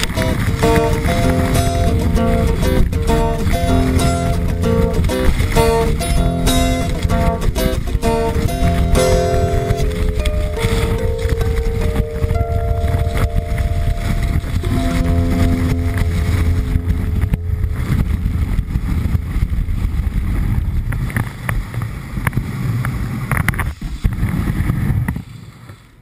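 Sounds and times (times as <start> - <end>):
wind rushing over microphone: 0.0 - 25.4
skis running on snow: 0.0 - 26.0.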